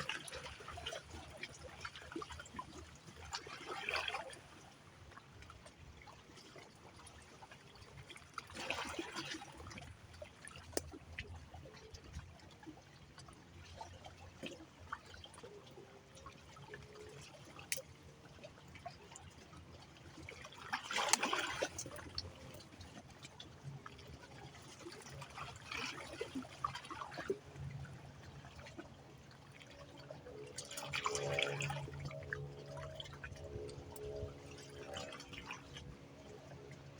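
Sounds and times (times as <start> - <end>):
water splashes: 0.0 - 36.9
water trickling and lapping: 0.0 - 36.9.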